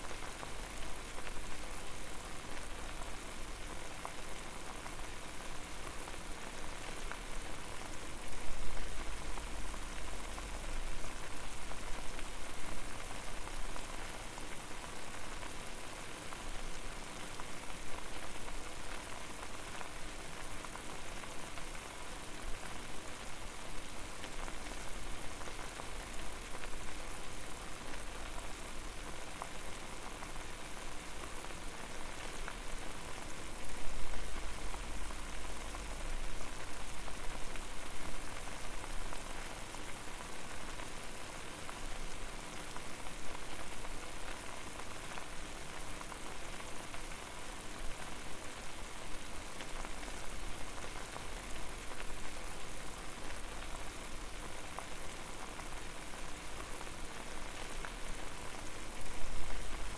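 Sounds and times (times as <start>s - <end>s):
water boiling hard in a pot: 0.0s - 59.9s.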